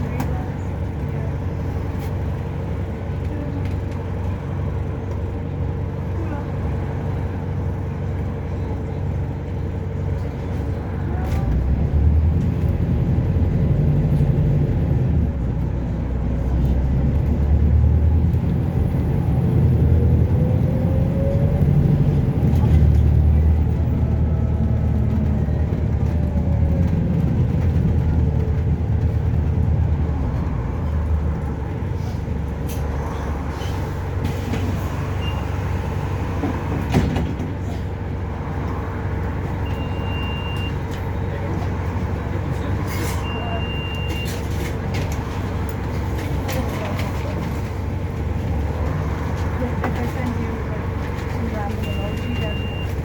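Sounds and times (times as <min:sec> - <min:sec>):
bus engine rumble: 0:00.0 - 0:53.0.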